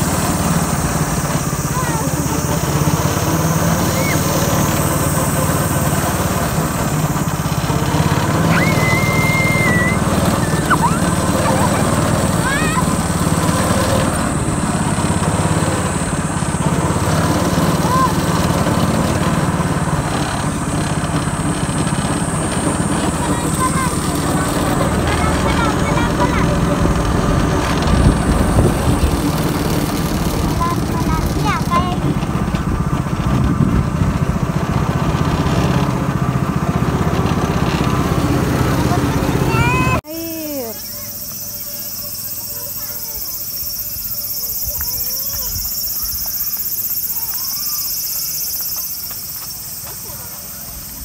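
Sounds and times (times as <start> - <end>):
go-kart engine running: 0.0 - 51.0.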